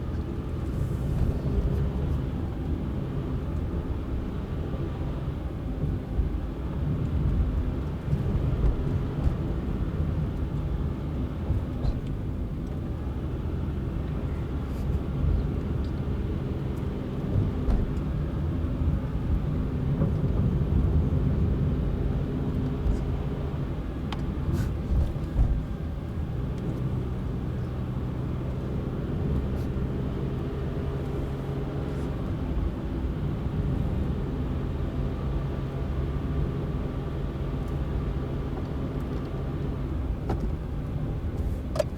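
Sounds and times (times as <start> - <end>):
car engine and road hum: 0.0 - 41.9.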